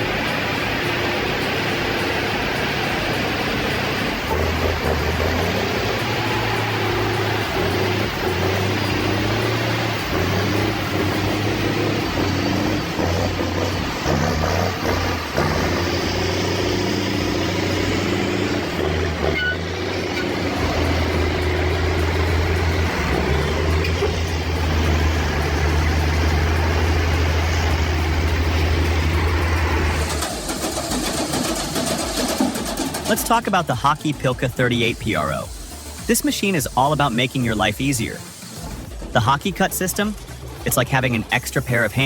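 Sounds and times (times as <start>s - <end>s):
heavy diesel engines under load: 0.0s - 42.0s.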